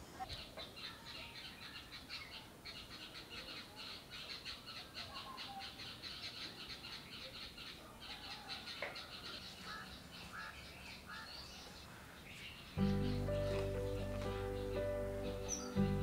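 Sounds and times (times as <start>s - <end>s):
brief bird calls: 0.3s - 16.0s.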